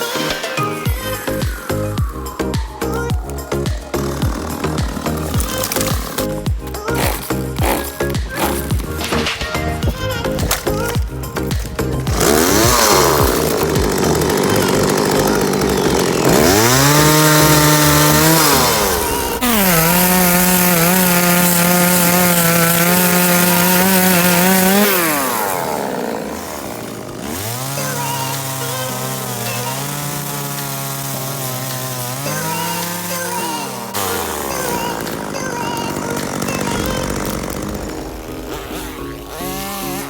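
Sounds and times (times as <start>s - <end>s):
chainsaw revving: 0.0s - 40.0s
chain rasping into wood: 2.9s - 40.0s.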